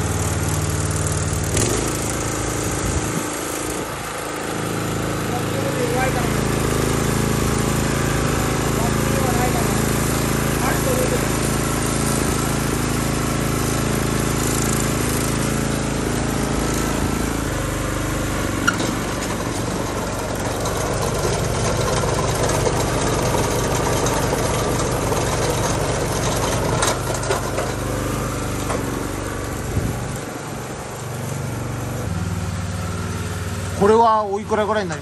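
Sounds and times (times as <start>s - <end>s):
small petrol engine running: 0.0s - 35.0s.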